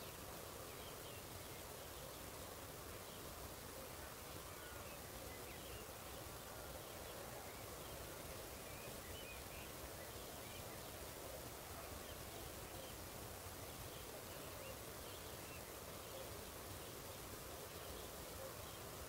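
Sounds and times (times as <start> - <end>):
low hiss and rumble: 0.0 - 19.0.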